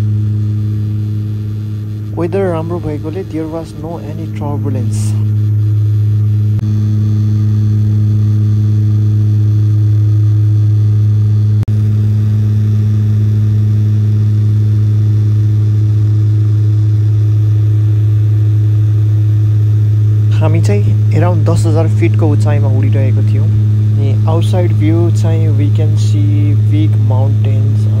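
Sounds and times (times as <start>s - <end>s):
turboprop cabin drone: 0.0s - 28.0s.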